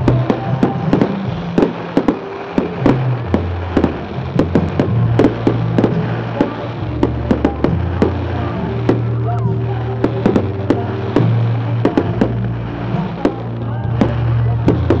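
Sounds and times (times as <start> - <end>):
fireworks bangs: 0.0 - 15.0
music with steady bass line: 0.0 - 15.0.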